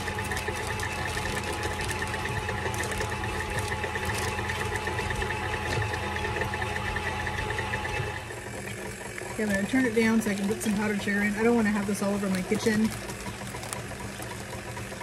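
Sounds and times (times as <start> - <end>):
plastic bag crinkling: 0.0 - 7.0, 9.1 - 15.0
stand mixer motor humming: 0.0 - 15.0.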